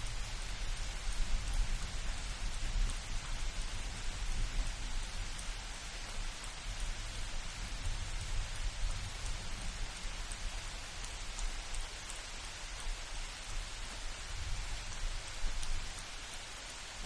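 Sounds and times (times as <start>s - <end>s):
light rain on foliage: 0.0s - 17.0s.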